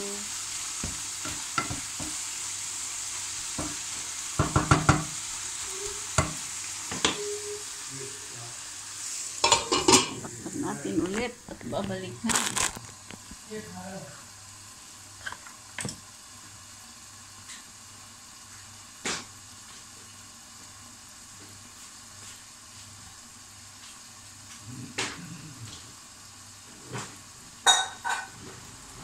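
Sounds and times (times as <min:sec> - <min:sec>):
stew sizzling in a pan: 0:00.0 - 0:29.0.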